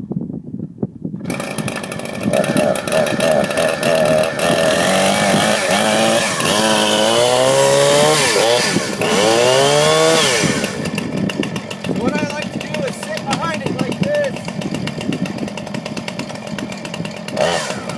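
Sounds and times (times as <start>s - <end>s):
chainsaw starting and running: 1.2s - 17.9s.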